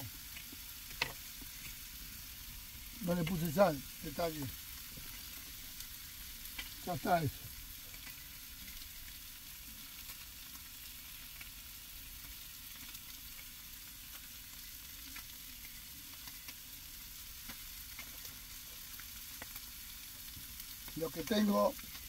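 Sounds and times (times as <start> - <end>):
fish frying in a pan: 0.0 - 22.0.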